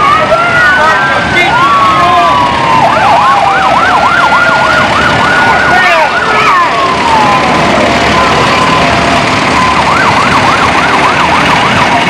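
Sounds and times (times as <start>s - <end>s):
siren wail: 0.0s - 12.0s
siren yelp: 0.0s - 12.0s.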